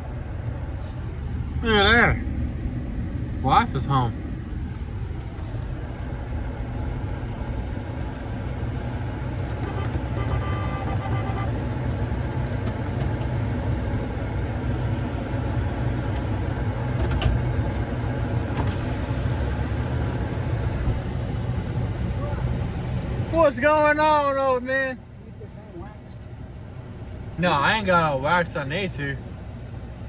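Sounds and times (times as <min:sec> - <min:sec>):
truck engine rumble from inside: 0:00.0 - 0:30.0.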